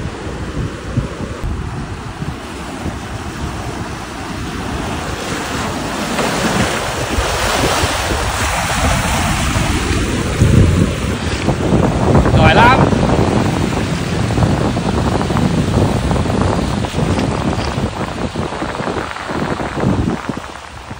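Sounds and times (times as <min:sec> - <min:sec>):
sea surf splashing: 0:00.0 - 0:20.9
wind buffeting microphone: 0:00.0 - 0:20.9.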